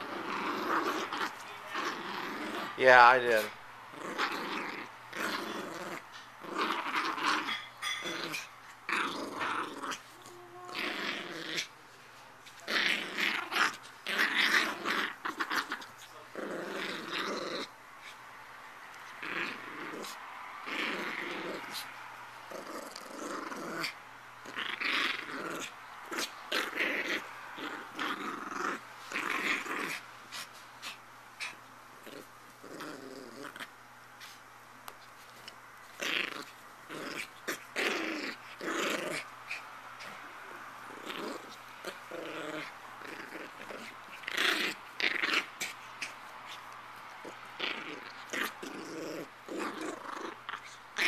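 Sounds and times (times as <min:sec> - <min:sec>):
puppy growling: 0:00.0 - 0:11.8, 0:12.5 - 0:18.2, 0:18.9 - 0:34.4, 0:35.1 - 0:51.0.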